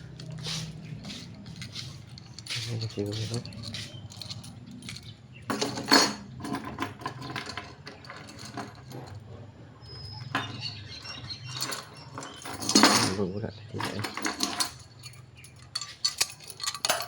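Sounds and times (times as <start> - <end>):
metal parts and tools clinking: 0.0 - 17.0.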